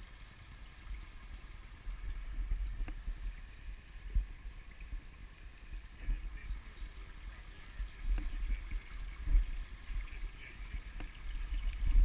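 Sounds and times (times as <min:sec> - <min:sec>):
water trickling over rock: 0:00.0 - 0:12.0
low microphone rumble: 0:00.7 - 0:12.0.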